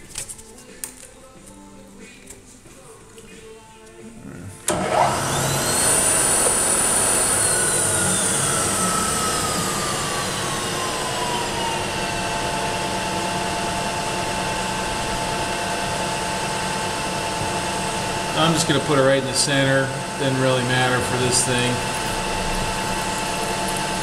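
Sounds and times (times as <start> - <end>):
milling machine spindle whine: 4.7 - 24.0.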